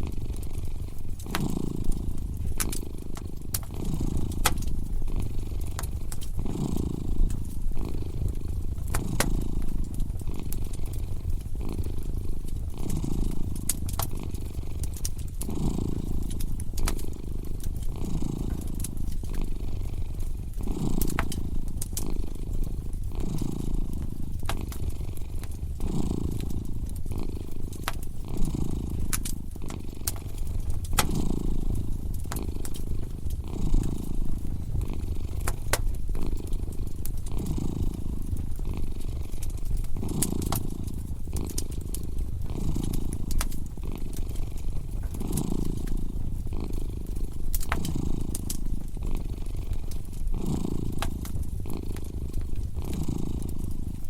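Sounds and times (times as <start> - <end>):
cat purring: 0.0 - 54.0
wood fire crackling and popping: 0.0 - 54.0.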